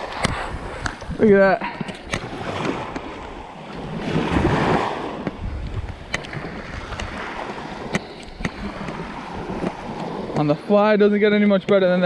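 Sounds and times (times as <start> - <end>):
wind on microphone: 0.0 - 10.8.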